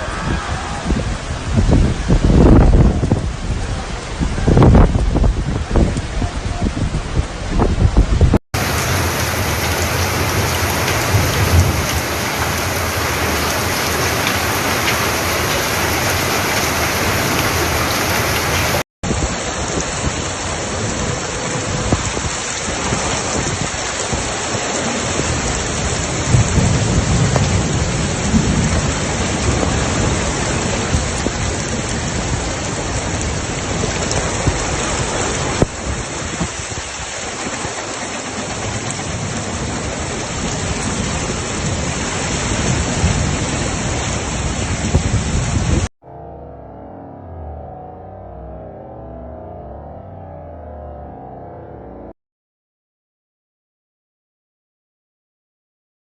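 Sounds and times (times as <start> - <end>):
heavy rain pouring: 0.0 - 45.9
thunder rumbles: 0.0 - 45.9.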